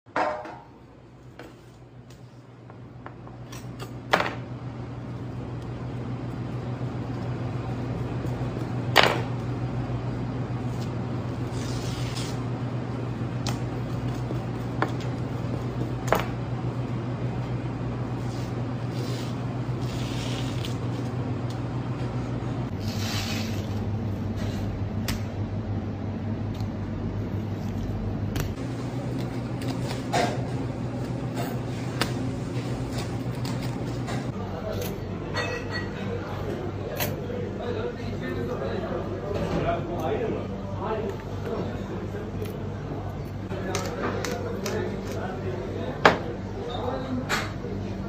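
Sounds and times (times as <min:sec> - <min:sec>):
steady low hum: 0:00.3 - 0:48.0.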